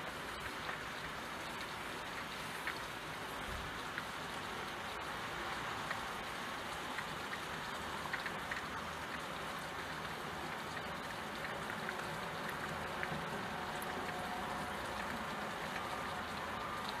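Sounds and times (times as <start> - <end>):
rain on window glass: 0.0 - 17.0
raindrops ticking: 0.0 - 17.0.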